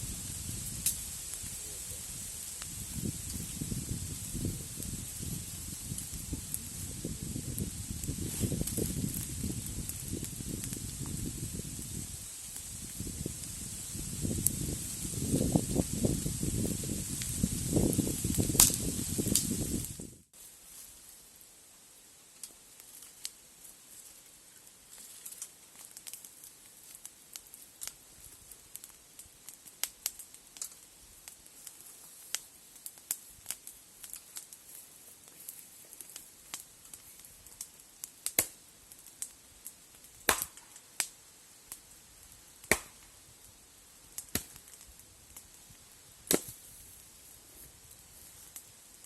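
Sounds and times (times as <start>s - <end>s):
campfire wood crackling: 0.0s - 49.0s
faint hiss: 0.0s - 49.0s.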